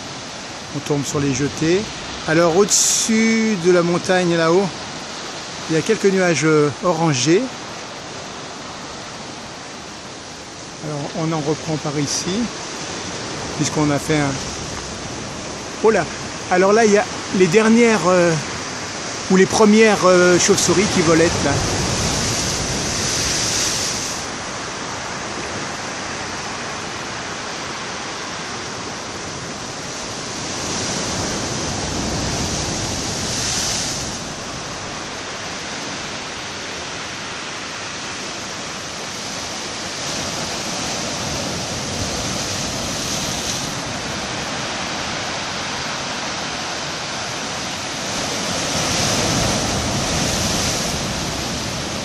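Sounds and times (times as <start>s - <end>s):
surf washing over concrete blocks: 0.0s - 52.0s.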